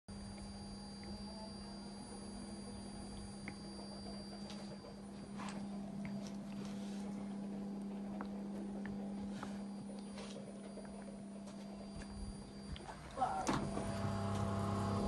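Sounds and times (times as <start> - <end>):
incubator fan humming: 0.1 - 15.0.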